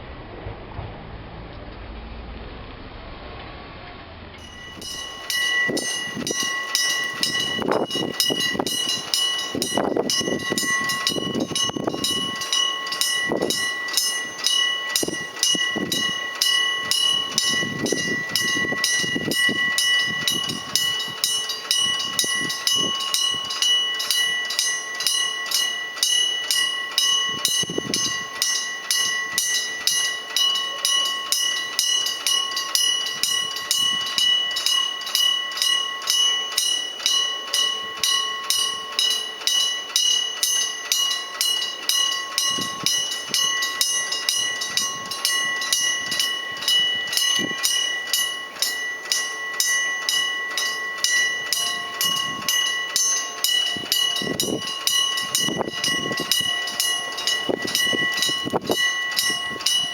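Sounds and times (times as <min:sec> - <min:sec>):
level crossing warning bell ringing: 0:04.4 - 0:59.9.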